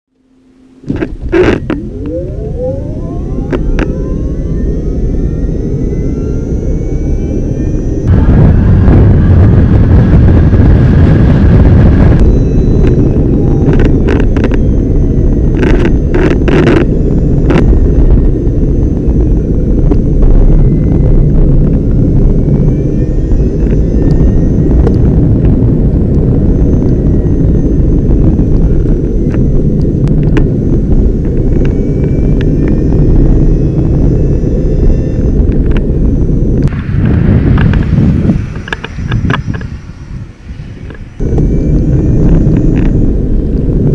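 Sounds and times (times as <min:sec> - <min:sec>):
wind and road rumble: 0:00.1 - 0:43.9
electric motor whine: 0:00.2 - 0:43.9.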